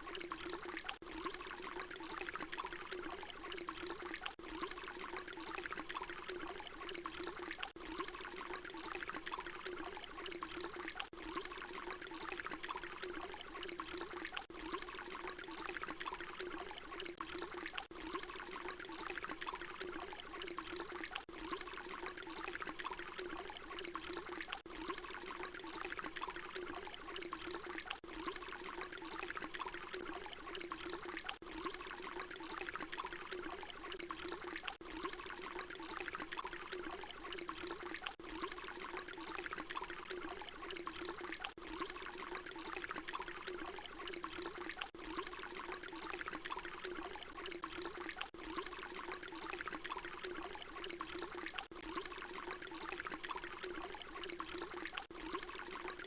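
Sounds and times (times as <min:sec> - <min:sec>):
water pouring: 0:00.0 - 0:56.0.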